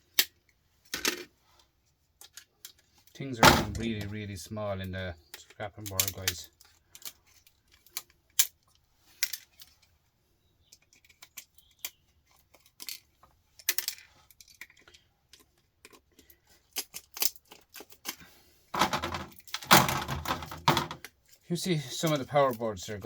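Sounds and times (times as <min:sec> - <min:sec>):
small parts clicking and clinking: 0:02.2 - 0:04.1, 0:04.9 - 0:10.0, 0:10.6 - 0:23.0
parts clattering: 0:02.2 - 0:04.2, 0:05.3 - 0:10.0, 0:10.7 - 0:22.6.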